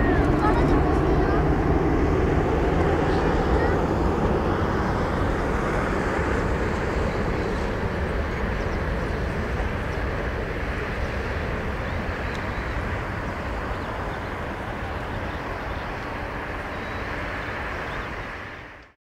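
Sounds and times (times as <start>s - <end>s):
jet airliner rumble: 0.0s - 19.0s.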